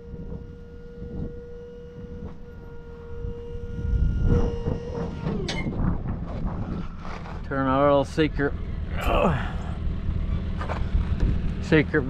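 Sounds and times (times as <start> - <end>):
hydraulic pump whine: 0.0 - 12.0.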